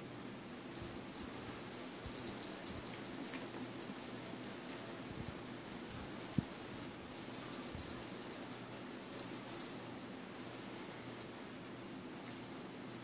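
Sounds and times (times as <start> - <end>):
insect chirping trill: 0.6 - 13.0.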